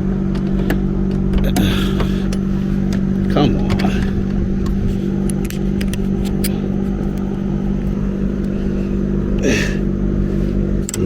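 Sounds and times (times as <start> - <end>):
motor hum with low rumble: 0.0 - 11.0.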